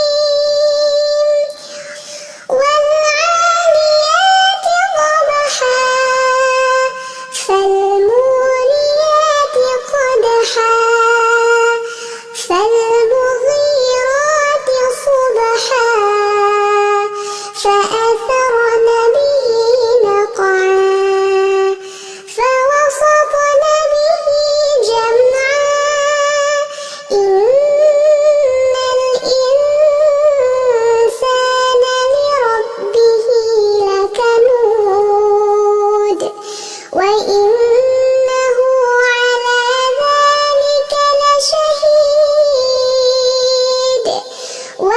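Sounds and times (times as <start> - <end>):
high-pitched voice chanting: 0.0 - 21.8, 22.4 - 44.9.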